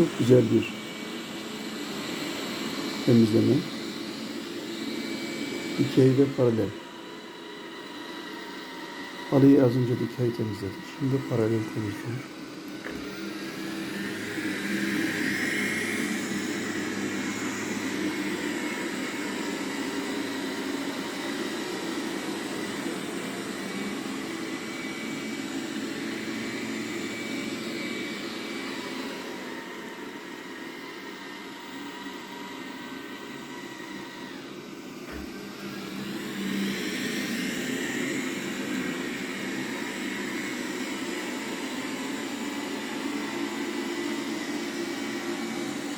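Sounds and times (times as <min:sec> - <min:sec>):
robot vacuum whirring: 0:00.0 - 0:45.9.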